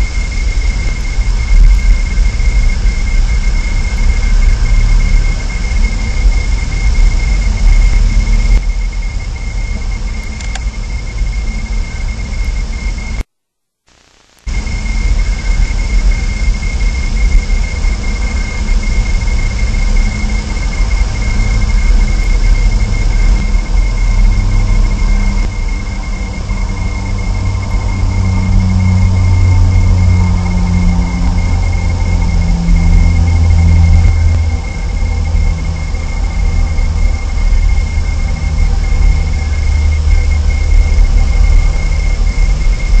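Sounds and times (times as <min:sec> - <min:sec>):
high-pitched whine: 0:00.0 - 0:13.3, 0:13.9 - 0:43.0
low rumble and hiss: 0:00.0 - 0:13.3, 0:14.0 - 0:43.0.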